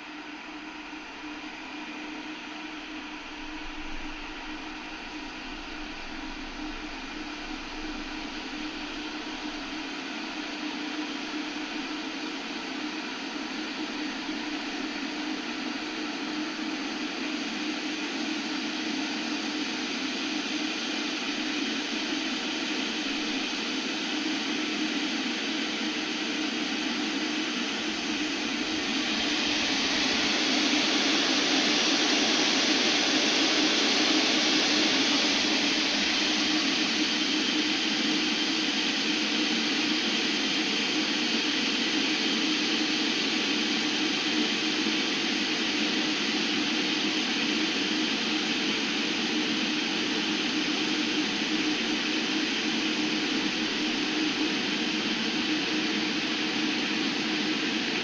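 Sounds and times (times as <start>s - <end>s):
electric kettle heating water: 0.0s - 58.0s.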